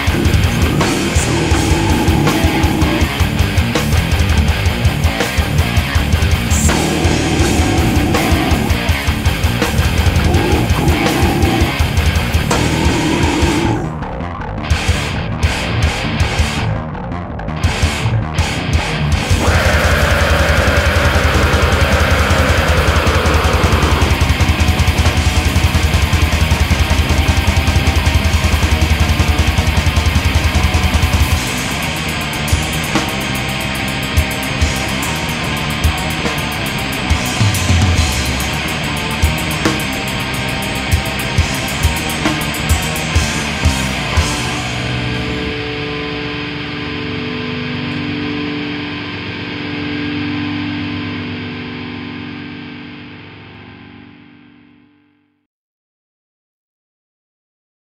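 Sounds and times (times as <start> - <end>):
distorted electric guitar: 0.0 - 55.3.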